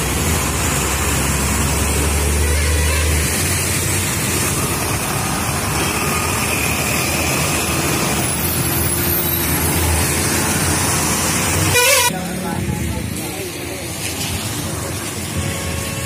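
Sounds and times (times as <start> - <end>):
dense rushing traffic noise: 0.0 - 16.0
truck engines running: 0.0 - 16.0.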